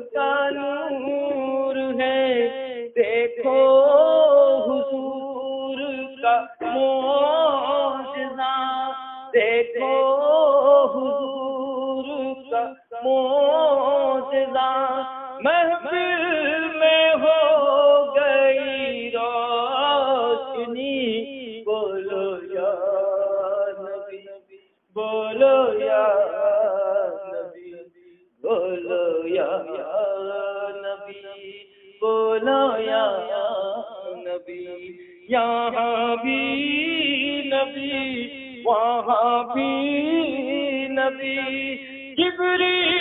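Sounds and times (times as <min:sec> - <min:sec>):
man singing unaccompanied: 0:00.0 - 0:43.0.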